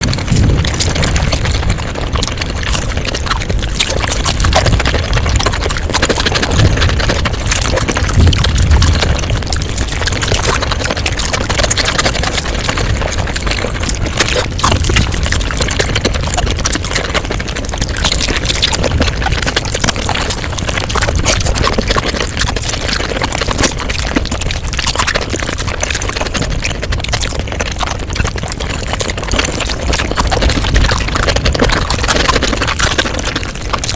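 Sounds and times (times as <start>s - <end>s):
sped-up chewing and slurping: 0.0s - 33.9s.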